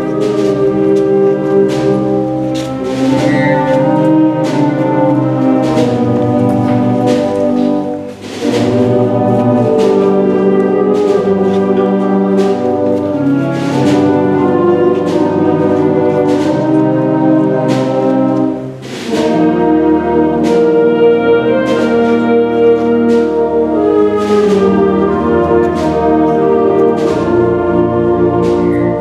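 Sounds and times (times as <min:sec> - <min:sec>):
percussion strokes: 0:00.0 - 0:29.0
wind band playing a march: 0:00.0 - 0:29.0.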